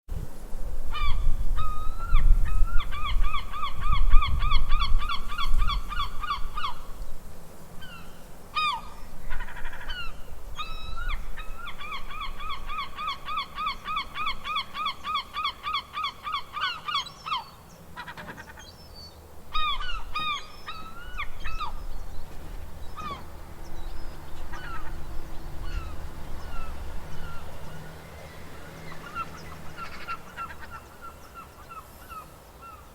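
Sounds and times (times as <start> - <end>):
seagulls calling: 0.9 - 7.0, 7.8 - 32.9.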